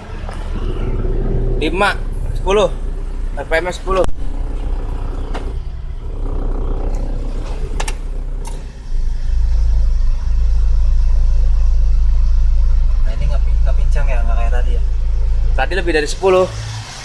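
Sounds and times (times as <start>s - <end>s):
low rumble: 0.0s - 16.3s
car engine idling: 0.0s - 17.0s.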